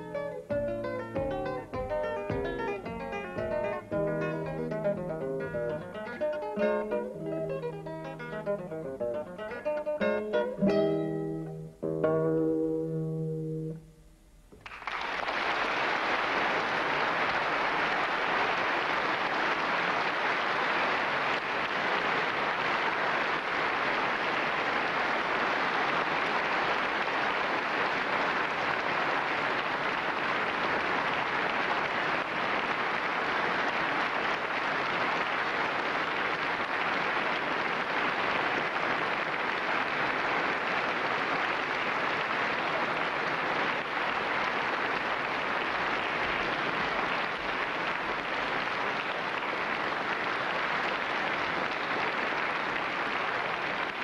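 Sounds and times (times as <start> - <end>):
audience applauding: 0.0 - 10.8, 14.5 - 54.0.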